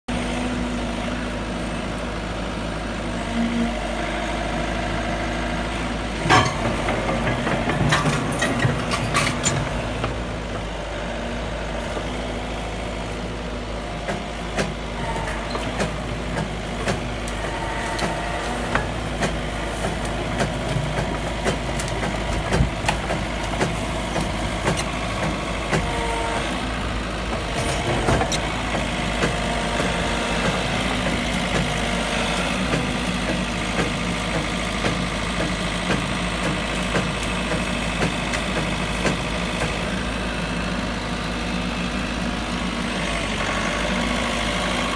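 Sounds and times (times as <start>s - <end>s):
excavator diesel engine: 0.1s - 44.9s.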